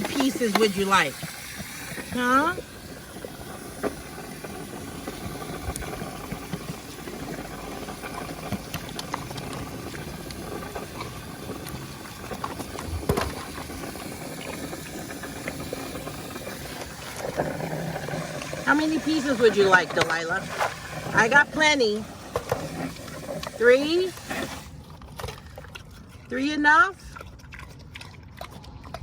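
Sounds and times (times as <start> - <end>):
animal chewing watermelon: 0.0 - 29.0.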